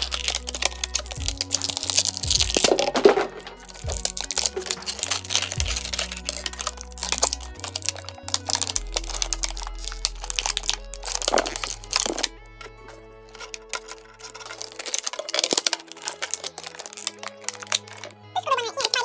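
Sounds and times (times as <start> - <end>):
background music: 0.0 - 19.0
plastic packaging crinkling: 0.0 - 19.0.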